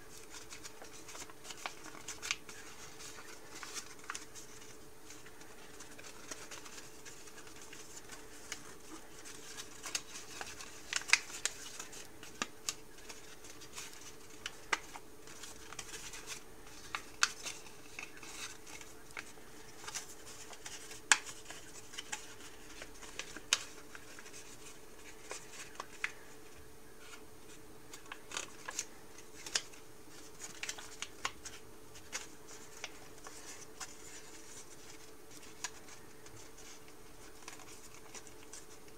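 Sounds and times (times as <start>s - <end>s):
paper crinkling as folded: 0.0s - 38.9s.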